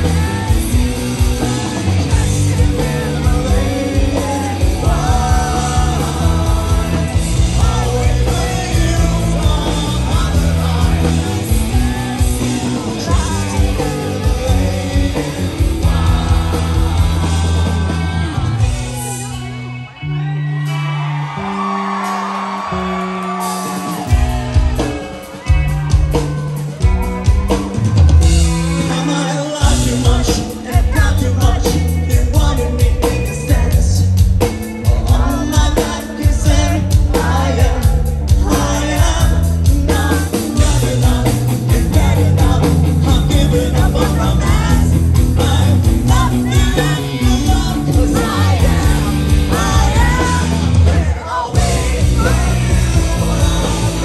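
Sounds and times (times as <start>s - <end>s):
man singing lead vocals: 0.0s - 19.6s, 28.6s - 54.0s
drums: 0.0s - 54.0s
live rock band playing: 0.0s - 54.0s.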